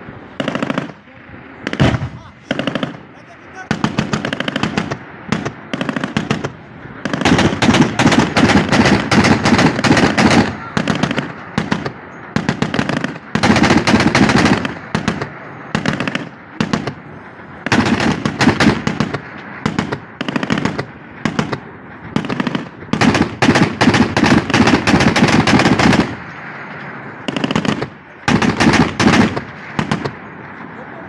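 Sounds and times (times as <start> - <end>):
anti-aircraft gun firing bursts: 0.4 - 1.0, 1.6 - 30.3.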